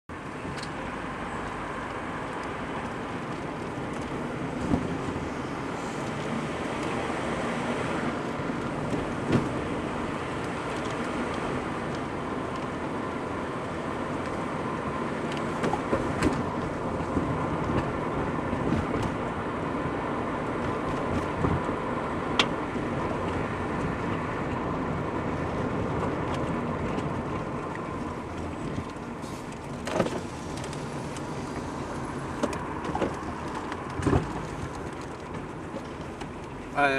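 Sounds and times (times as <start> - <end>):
car engine and tyre drone: 0.1 - 36.9.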